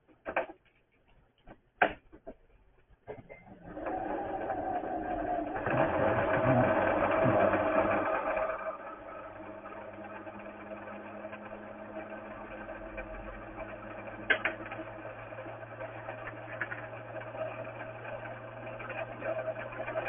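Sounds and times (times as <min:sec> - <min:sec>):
sewing machine motor running: 0:03.6 - 0:20.0.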